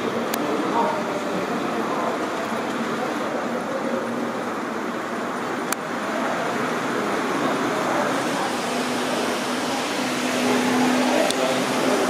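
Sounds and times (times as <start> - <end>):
indoor hall background noise: 0.0 - 12.0.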